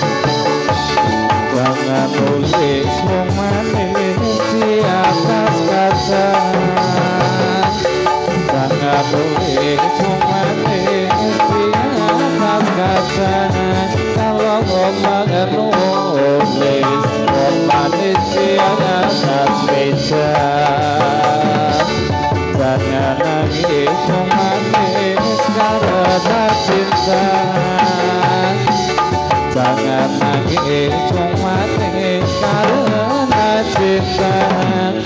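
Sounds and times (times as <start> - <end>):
continuous melody: 0.0 - 35.0
hand drums playing brisk rhythm: 0.0 - 35.0.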